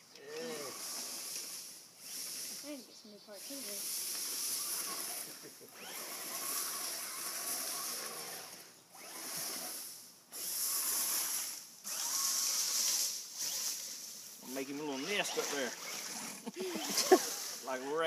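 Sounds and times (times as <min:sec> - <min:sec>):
toy car electric motor whirring: 0:00.2 - 0:17.8.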